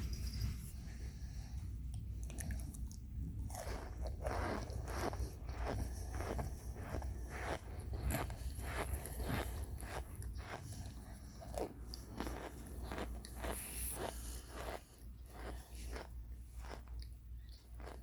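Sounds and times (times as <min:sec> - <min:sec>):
person chewing crunchy food: 0:02.2 - 0:18.0.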